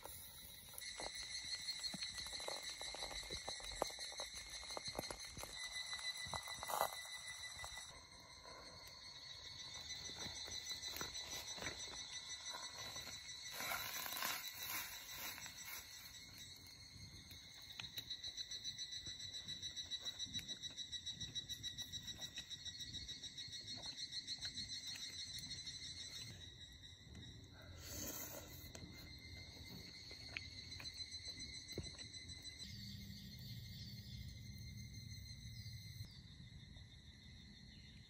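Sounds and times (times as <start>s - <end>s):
insect chorus trilling: 0.0s - 38.0s.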